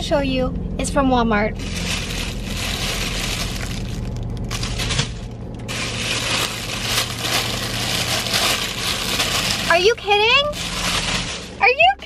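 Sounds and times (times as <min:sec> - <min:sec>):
low hum: 0:00.0 - 0:12.0
plastic packaging crinkling: 0:01.6 - 0:11.8.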